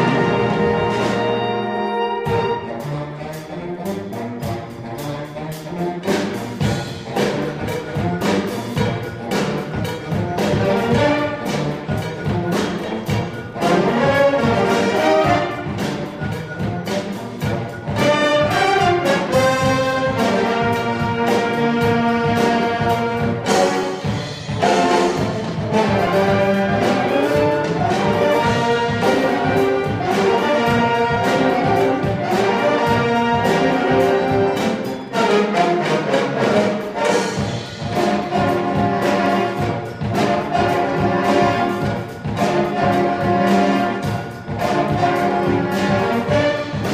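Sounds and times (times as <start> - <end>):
saxophone ensemble playing jazz: 0.0 - 46.9.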